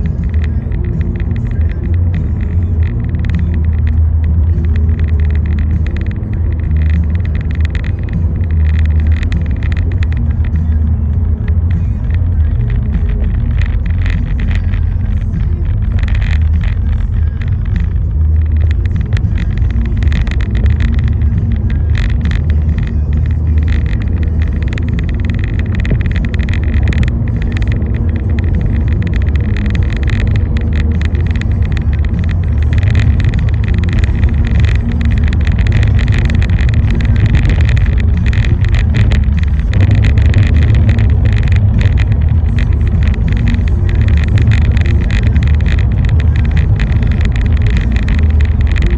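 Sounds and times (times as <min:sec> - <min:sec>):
car engine and road noise: 0:00.0 - 0:48.9
rain hiss and crackles: 0:00.0 - 0:48.9.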